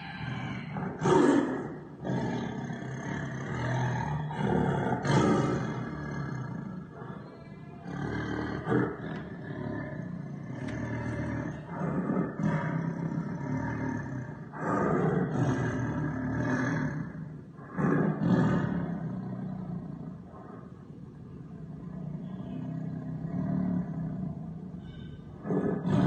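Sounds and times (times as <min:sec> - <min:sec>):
big cat roaring: 0:00.0 - 0:20.7, 0:21.6 - 0:26.0.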